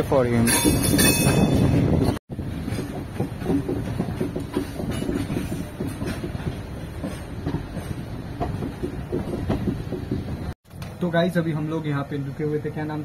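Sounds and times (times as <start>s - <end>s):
train rumble: 0.0s - 10.6s
wheels clattering over track: 0.4s - 10.9s.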